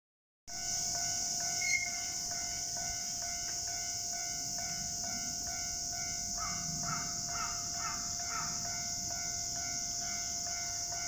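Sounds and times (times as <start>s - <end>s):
level crossing warning bell: 0.5s - 11.0s
steady high-pitched hiss: 0.5s - 11.0s.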